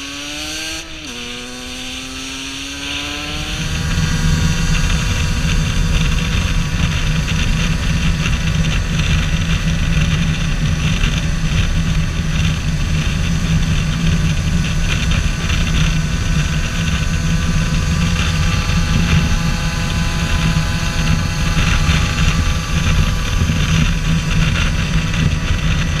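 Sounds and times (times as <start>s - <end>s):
motorcycle engine cruising: 0.0s - 26.0s
wind rush: 2.6s - 26.0s.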